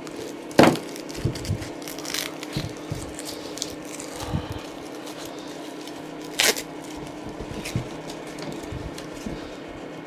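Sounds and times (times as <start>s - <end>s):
tape ripping: 0.0s - 9.2s
steady low hum: 0.0s - 10.0s.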